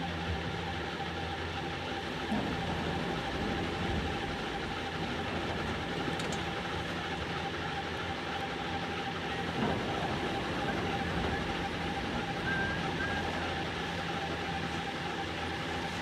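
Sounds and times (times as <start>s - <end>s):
constant mid-pitched tone: 0.0s - 16.0s
mechanical hum and rumble: 0.0s - 16.0s.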